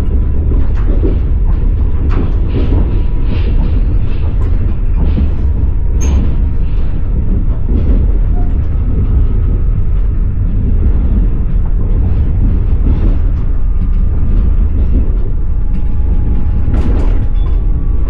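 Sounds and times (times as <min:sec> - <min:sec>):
train wheels rumbling: 0:00.0 - 0:18.0
wheel clacks: 0:00.0 - 0:18.0.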